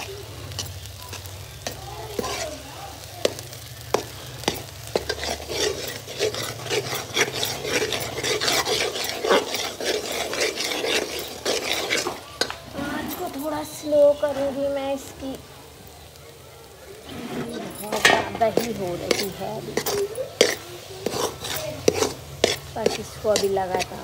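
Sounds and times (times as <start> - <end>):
metal spoon scraping pot: 0.0 - 2.6, 3.2 - 13.5, 17.0 - 24.0
paste sizzling in fat: 0.0 - 24.0.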